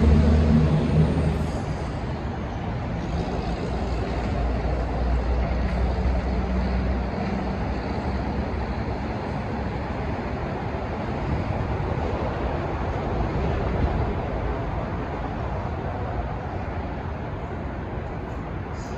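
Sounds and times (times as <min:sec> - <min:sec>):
train rumbling: 0:00.0 - 0:18.9.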